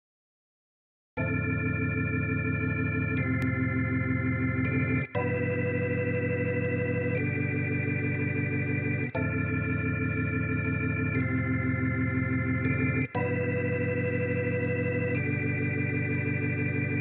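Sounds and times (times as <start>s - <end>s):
organ-like keyboard chords: 1.2s - 17.0s.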